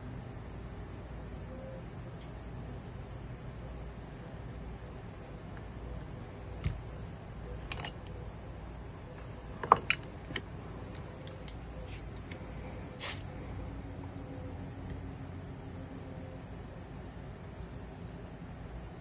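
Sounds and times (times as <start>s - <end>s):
steady high-pitched hiss: 0.0s - 19.0s.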